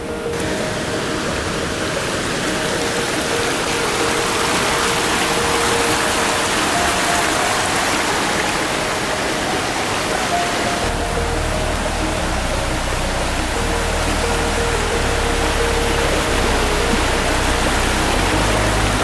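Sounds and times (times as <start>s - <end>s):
stream water rushing over rocks: 0.0s - 19.0s.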